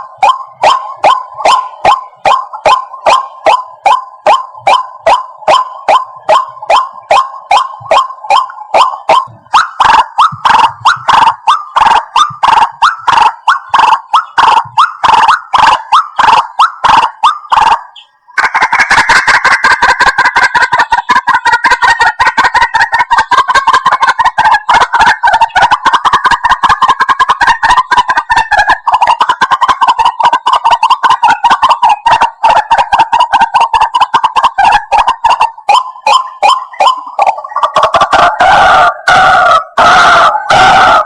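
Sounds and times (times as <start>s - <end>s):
waterhen calling: 0.0s - 41.0s.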